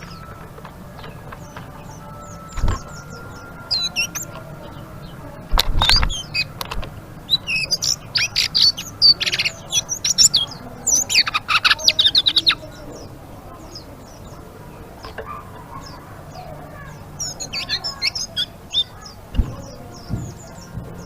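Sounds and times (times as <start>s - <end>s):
songbird chattering twitter: 1.0s - 21.0s.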